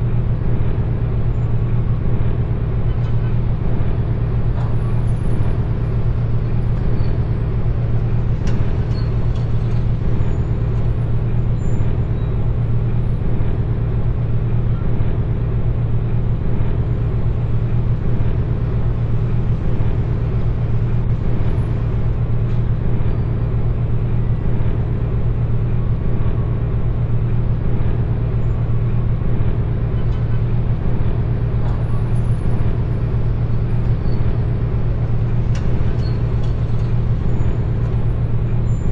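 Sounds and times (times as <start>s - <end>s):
loud mechanical rumble with hum: 0.0s - 38.9s.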